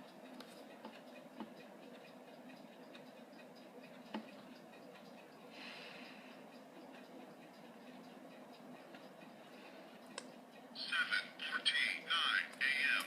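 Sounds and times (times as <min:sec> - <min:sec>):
clocks ticking: 0:00.0 - 0:13.0.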